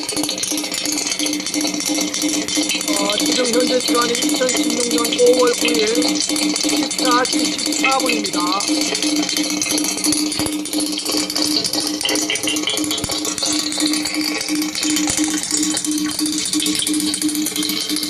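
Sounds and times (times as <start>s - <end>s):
dense rattling crackling noise: 0.0s - 18.0s.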